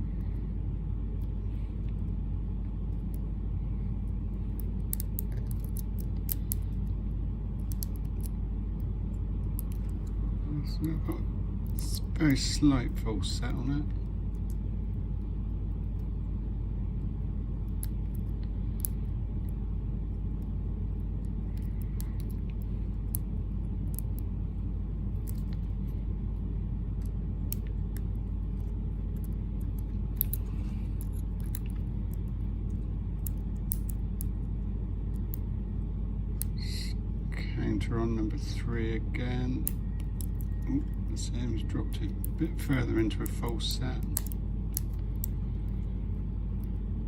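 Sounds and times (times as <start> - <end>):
steady low rumble: 0.0 - 47.0.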